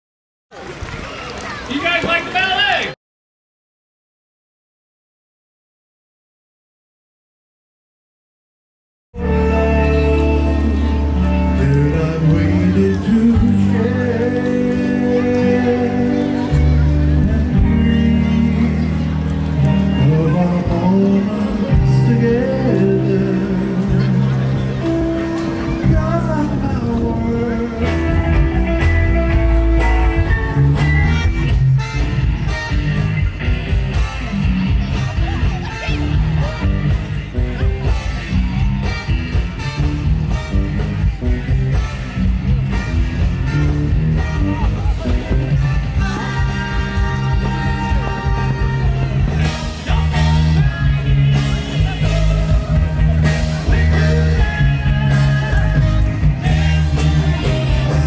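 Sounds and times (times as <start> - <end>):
loud song with singing: 9.2 - 39.6, 40.3 - 58.0
loud rock music: 9.2 - 58.0.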